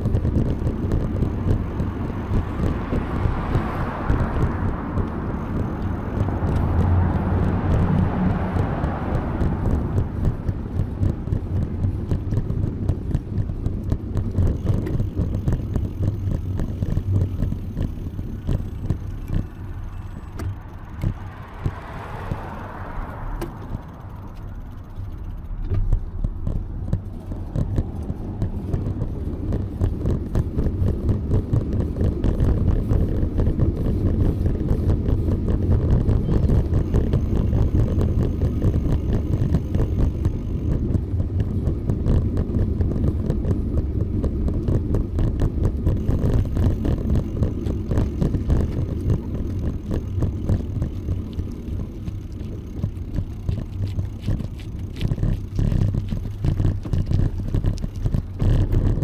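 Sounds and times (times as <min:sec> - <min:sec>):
bicycle road noise: 0:00.0 - 0:59.0
wind rumble on microphone: 0:00.0 - 0:59.0.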